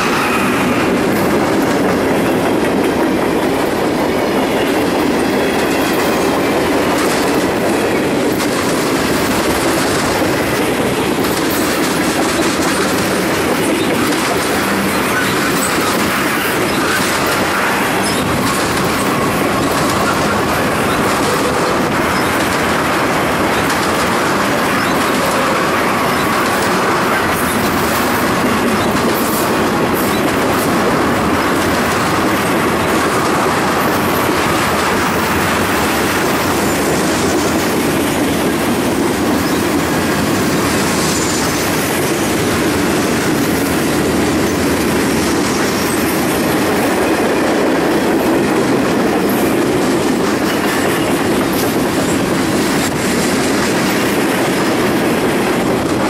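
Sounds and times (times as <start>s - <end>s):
steel wheels rumbling on rail: 0.0s - 56.0s
wheels clicking over rail joints: 0.0s - 56.0s.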